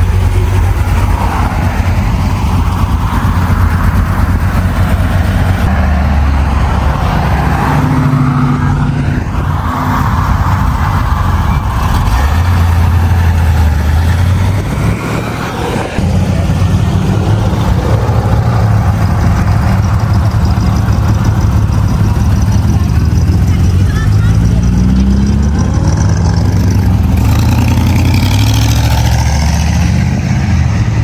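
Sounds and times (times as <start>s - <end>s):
car engines running: 0.0s - 31.0s.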